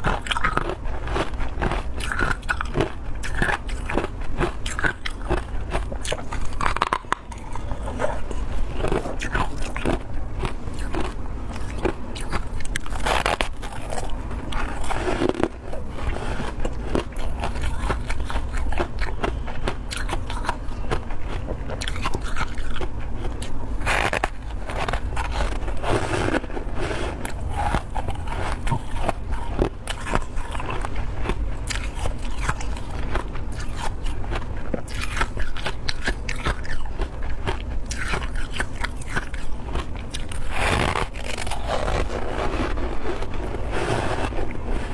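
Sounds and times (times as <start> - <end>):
crunching of chewed frost: 0.0 - 44.9.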